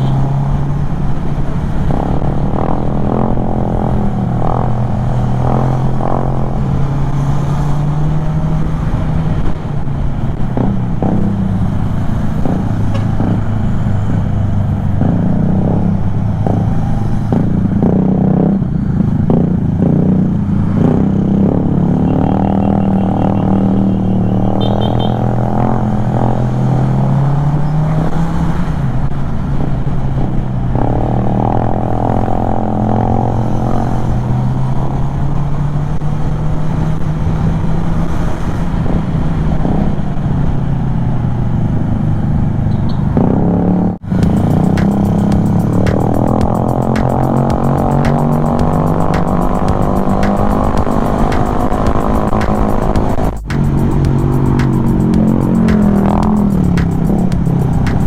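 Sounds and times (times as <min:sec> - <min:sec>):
scooter engine humming: 0:00.0 - 0:26.8, 0:37.2 - 0:58.0
road and wind rush: 0:00.0 - 0:58.0.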